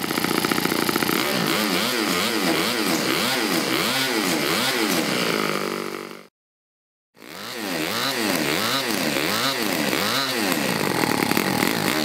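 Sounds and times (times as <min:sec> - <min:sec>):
model engine running: 0:00.0 - 0:06.3, 0:07.2 - 0:12.0.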